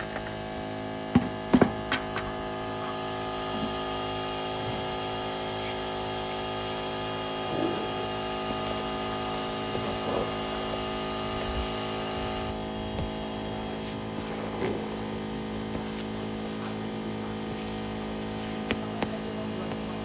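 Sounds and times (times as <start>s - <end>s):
electric motor hum: 0.0s - 20.0s.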